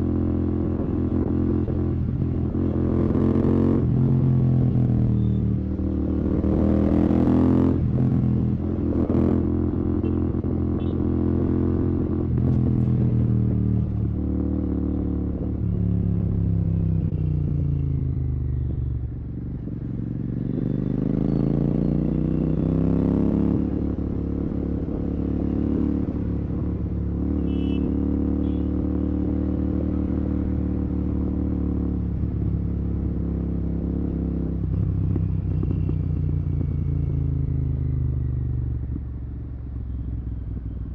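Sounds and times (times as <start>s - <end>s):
motorcycle engine revving: 0.0s - 40.8s.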